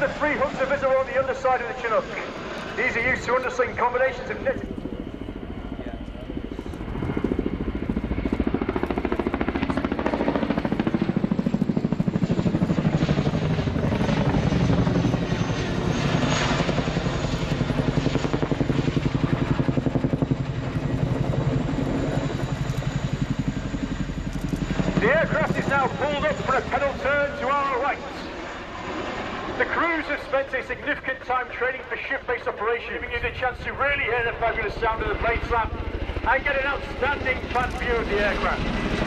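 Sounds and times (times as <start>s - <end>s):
helicopter rotors beating overhead: 0.0s - 39.0s.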